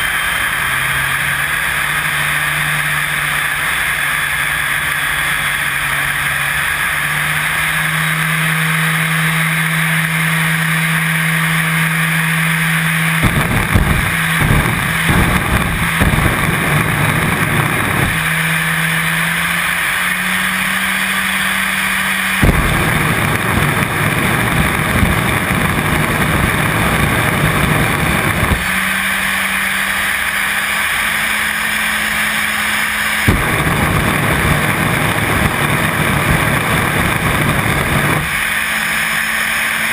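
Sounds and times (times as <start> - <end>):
jet engine heavy rumbling rush: 0.0 - 39.9
jet engine hissing: 0.0 - 39.9.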